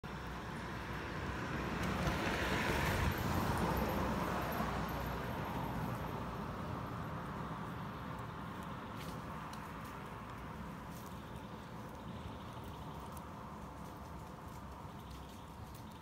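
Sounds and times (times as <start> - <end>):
road vehicle passing by: 0.0 - 16.0.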